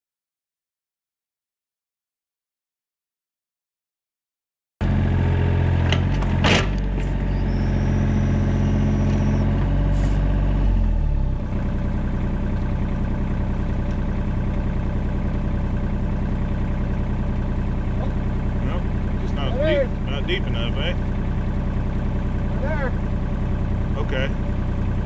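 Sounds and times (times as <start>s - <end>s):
excavator engine running: 4.8s - 25.0s.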